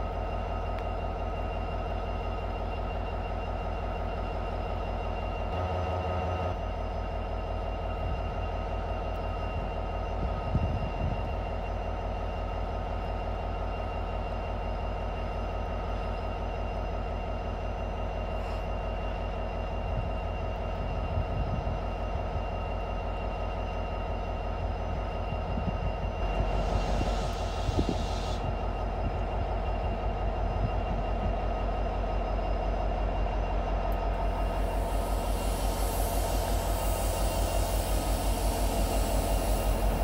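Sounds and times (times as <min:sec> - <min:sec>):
diesel locomotive idling: 0:00.0 - 0:40.0.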